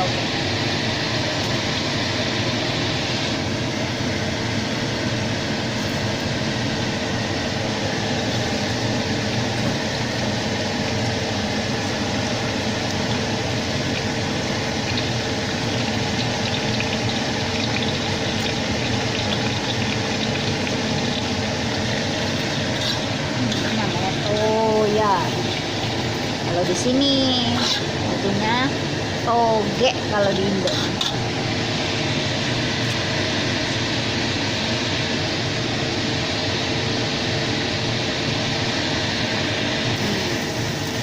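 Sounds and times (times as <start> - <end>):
constant low hum: 0.0 - 41.0
food sizzling in hot oil: 0.0 - 41.0.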